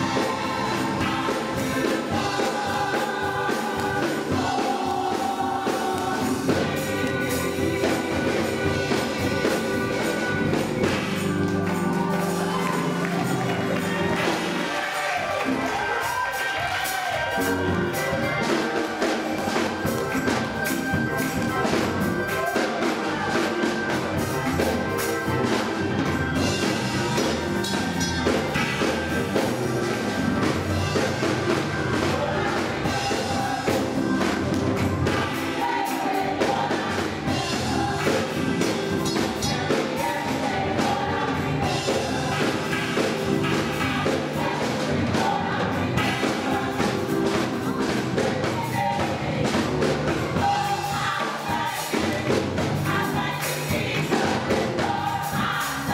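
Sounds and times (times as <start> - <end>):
gospel choir singing: 0.0 - 55.9
live band drums and percussion: 0.0 - 55.9.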